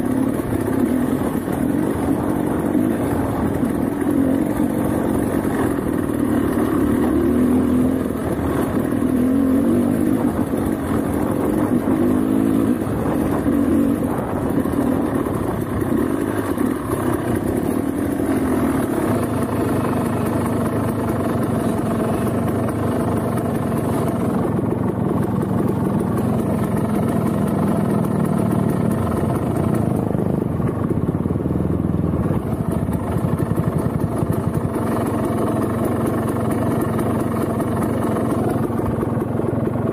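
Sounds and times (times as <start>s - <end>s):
engine clatter: 0.0s - 39.9s
motorcycle engine running: 0.0s - 39.9s.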